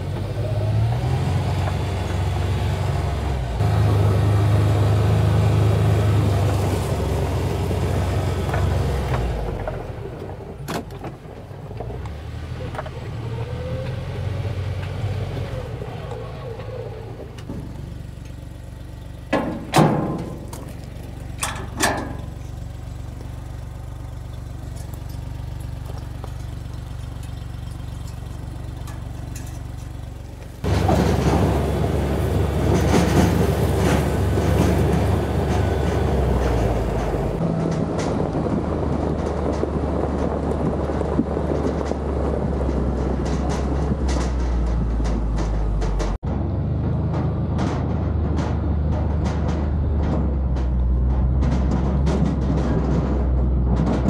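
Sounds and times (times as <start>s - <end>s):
tyres on gravel: 0.0s - 54.0s
vehicle engine running: 0.0s - 54.0s.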